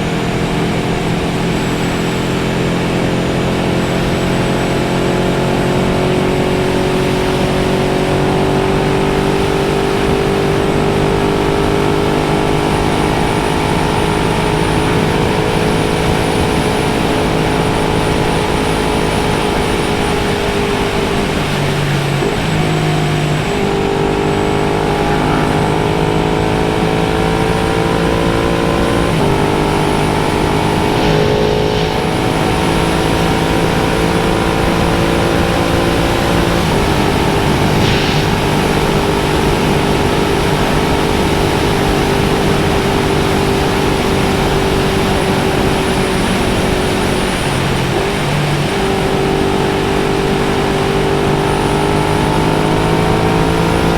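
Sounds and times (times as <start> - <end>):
motorcycle engine cruising: 0.0 - 53.9
wind noise: 3.9 - 51.0.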